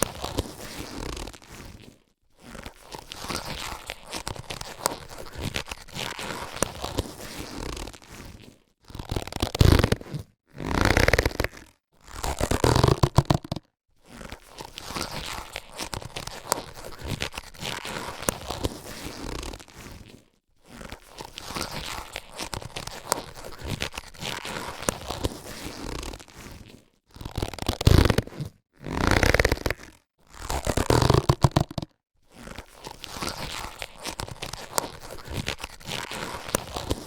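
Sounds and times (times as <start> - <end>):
latex gloves rustling and crackling: 0.0 - 37.0.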